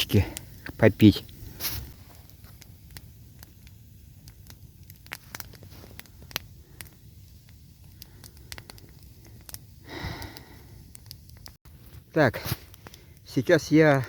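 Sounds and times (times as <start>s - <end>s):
campfire crackling: 0.0s - 14.0s
sharp pops of fire: 0.0s - 14.0s.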